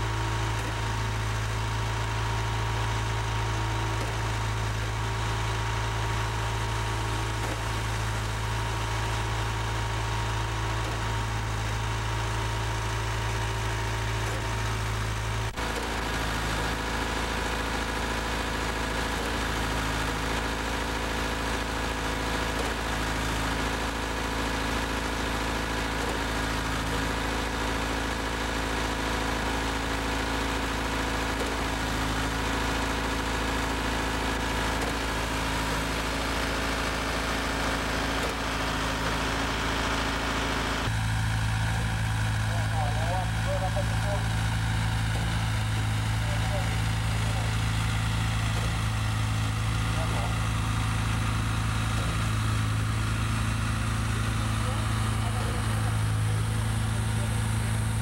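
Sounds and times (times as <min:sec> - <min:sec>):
concrete pump engine running: 0:00.0 - 0:58.0.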